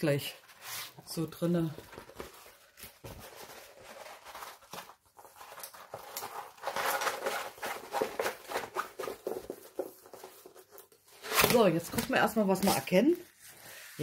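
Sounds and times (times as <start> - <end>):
packaging rustling and crinkling: 1.6 - 13.6.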